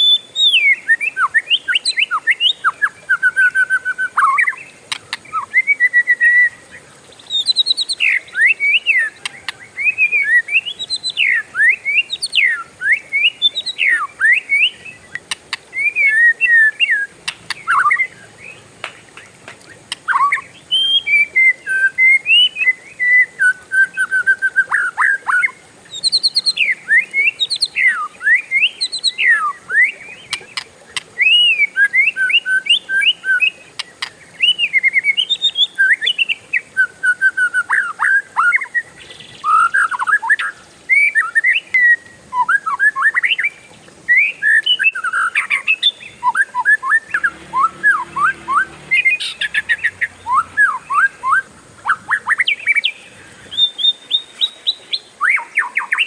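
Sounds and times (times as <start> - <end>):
bird singing whistled song: 0.0 - 18.6, 19.2 - 56.0.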